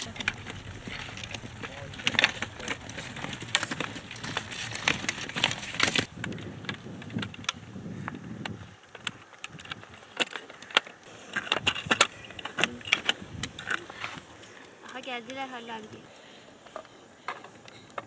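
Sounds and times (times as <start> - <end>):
ski poles clicking and clacking: 0.0 - 16.0, 16.6 - 18.0.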